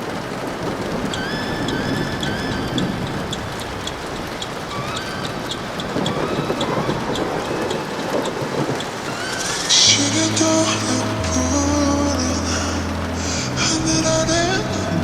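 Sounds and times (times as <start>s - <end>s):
low thunder rumble: 0.0s - 15.0s
steady rainfall: 0.0s - 15.0s.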